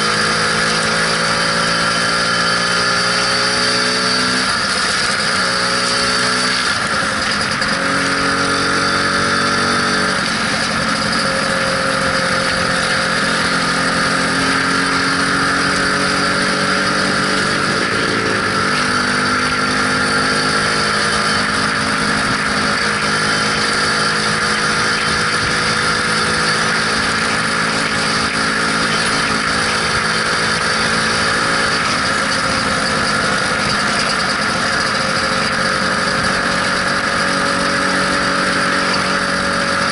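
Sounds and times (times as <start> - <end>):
scooter engine running: 0.0 - 39.9
wind and road rush: 0.0 - 39.9.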